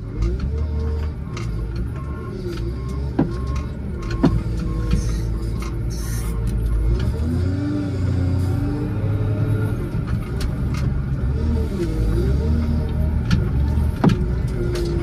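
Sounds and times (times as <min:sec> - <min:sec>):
diesel loader engine under load: 0:00.0 - 0:15.0.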